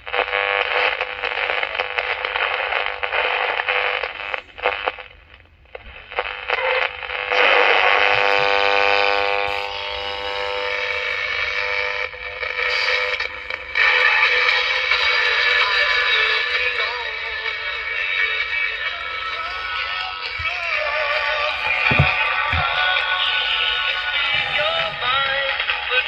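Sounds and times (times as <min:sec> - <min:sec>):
am radio broadcast: 0:00.0 - 0:26.0
radio static crackling: 0:00.0 - 0:26.0.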